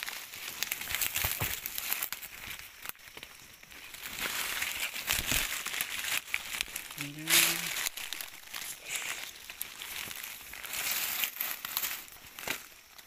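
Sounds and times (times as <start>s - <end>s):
close rustling and crinkling: 0.0s - 13.0s.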